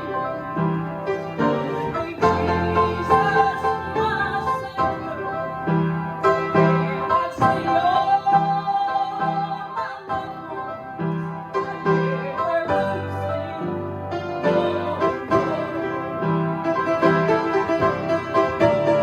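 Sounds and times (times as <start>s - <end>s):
instrumental gospel music: 0.0s - 19.0s.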